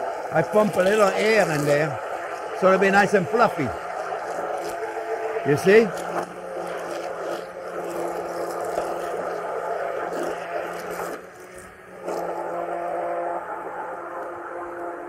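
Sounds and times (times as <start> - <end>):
electric mixer motor humming: 0.0 - 15.0.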